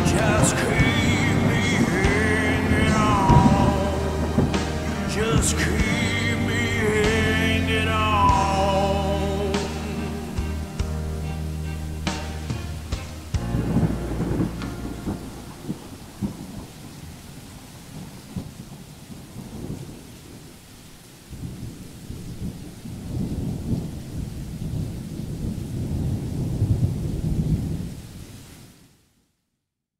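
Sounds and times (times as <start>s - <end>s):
low rolling thunder: 0.0s - 28.4s
steady rain: 0.0s - 29.4s.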